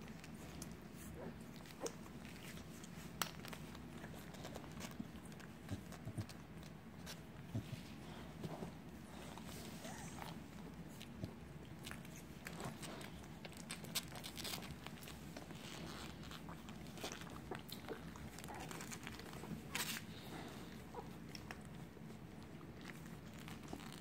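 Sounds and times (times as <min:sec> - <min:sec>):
puppies suckling wet smacks: 0:00.0 - 0:08.5, 0:09.3 - 0:24.0
steady low hum: 0:00.0 - 0:24.0.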